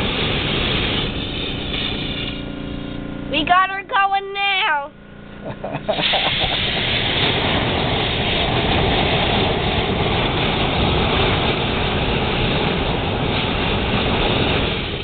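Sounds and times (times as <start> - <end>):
compressed air blasting into fire: 0.0 - 3.2, 5.8 - 15.0.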